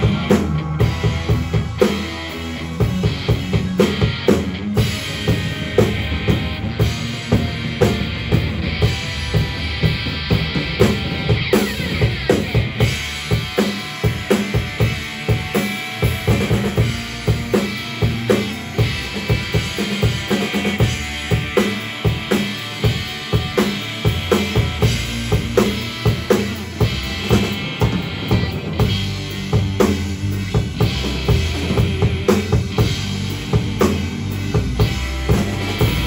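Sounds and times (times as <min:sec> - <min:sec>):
drum kit hitting fast strokes: 0:00.0 - 0:36.0
rock band playing: 0:00.0 - 0:36.0.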